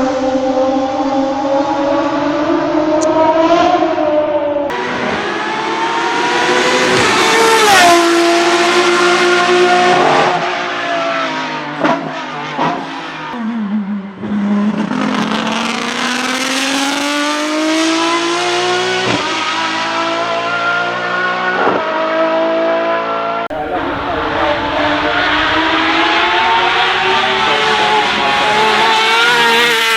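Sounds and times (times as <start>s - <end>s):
race car engine revving: 0.0s - 29.9s.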